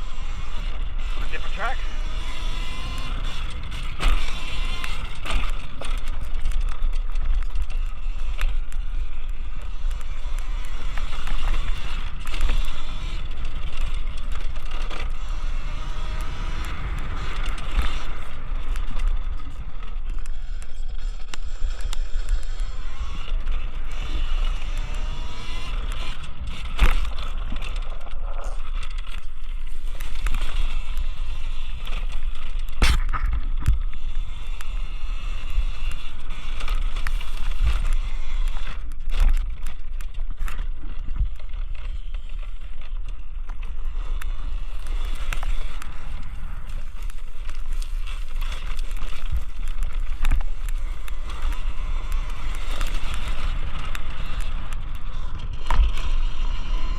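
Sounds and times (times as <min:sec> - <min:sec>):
electric motor whine: 0:00.0 - 0:56.9.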